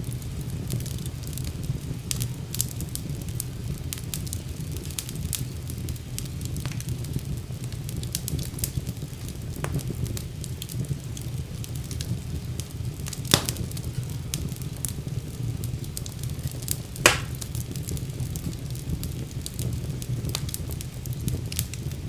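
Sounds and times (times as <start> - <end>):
fire crackling in fireplace: 0.0 - 22.0
loud fire pops: 0.0 - 22.0.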